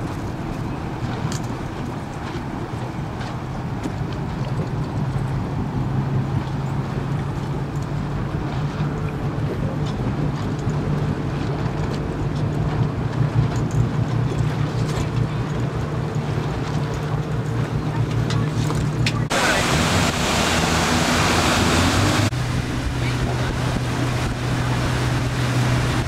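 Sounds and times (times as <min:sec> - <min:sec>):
boat motor humming: 0:00.0 - 0:26.0
water rushing past: 0:00.0 - 0:26.0
wind on microphone: 0:00.0 - 0:26.0.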